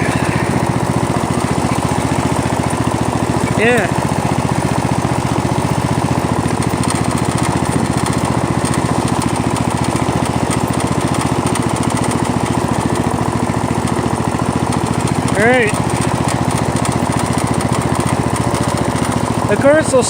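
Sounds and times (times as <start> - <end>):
small gasoline engine running: 0.0 - 20.0.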